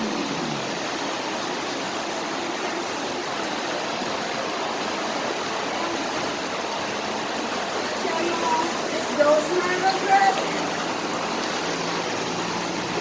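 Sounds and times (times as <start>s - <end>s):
floodwater rushing over road: 0.0s - 13.0s.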